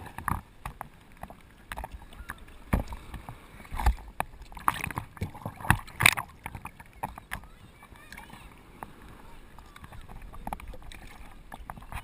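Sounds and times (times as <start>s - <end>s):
sea water splashing in surf: 0.0s - 12.0s.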